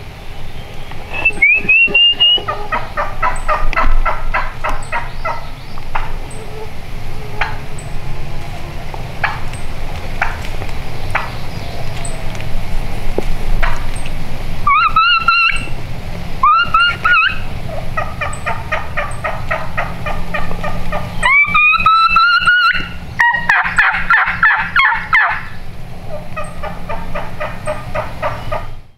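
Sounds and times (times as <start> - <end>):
turkey hen calling: 0.8 - 12.5, 13.6 - 15.8, 16.4 - 28.9.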